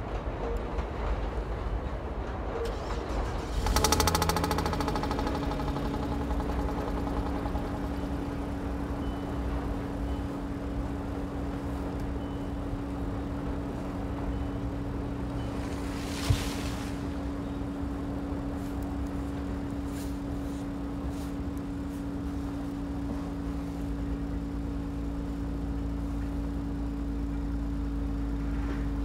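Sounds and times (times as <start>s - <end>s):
car engine starting and idling: 2.6s - 29.0s.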